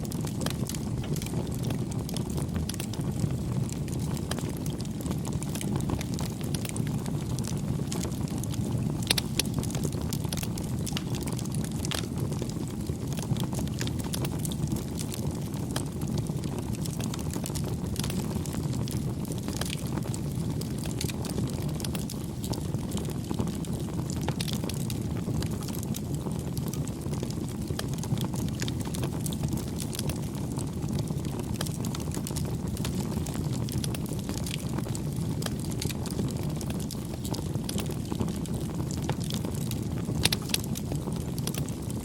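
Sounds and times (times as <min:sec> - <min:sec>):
bonfire crackling: 0:00.0 - 0:42.0.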